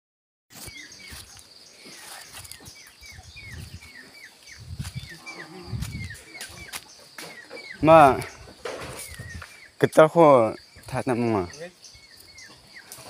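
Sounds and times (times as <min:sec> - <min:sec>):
high insect drone: 0:00.7 - 0:13.0.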